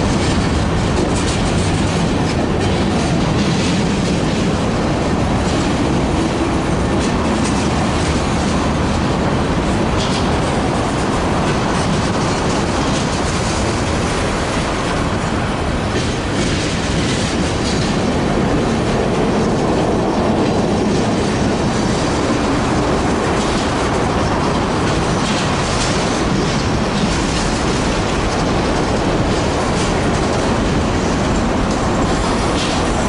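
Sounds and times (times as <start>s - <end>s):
clicks at rail joints: 0.0s - 15.1s, 15.9s - 33.0s
train wheels rumbling on rails: 0.0s - 33.0s.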